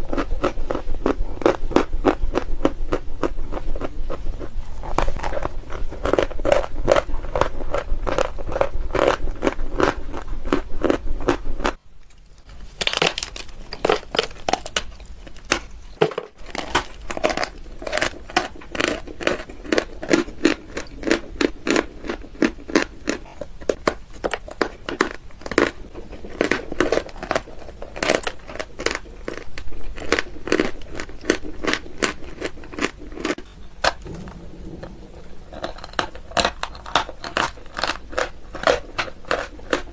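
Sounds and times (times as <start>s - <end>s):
chalk being chewed: 0.0s - 33.5s, 35.6s - 39.9s.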